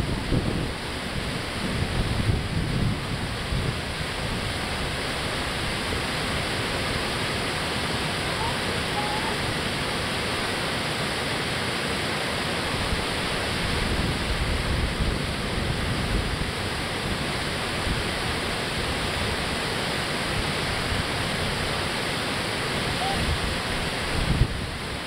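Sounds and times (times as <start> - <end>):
water rushing over a dam: 0.0 - 25.0.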